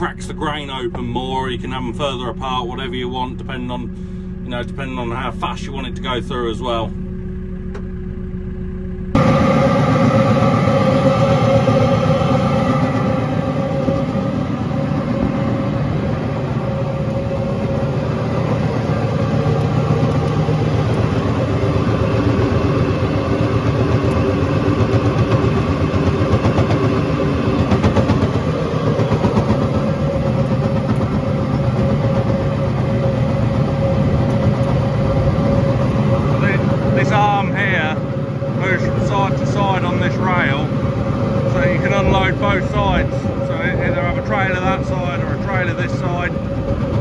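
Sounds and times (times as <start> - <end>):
roller mill running: 0.0 - 47.0.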